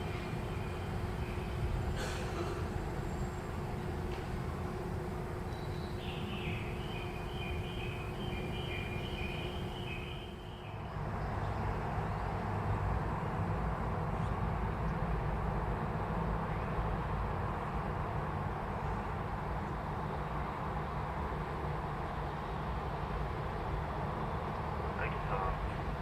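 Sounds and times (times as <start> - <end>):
train rumbling on tracks: 0.0 - 26.0.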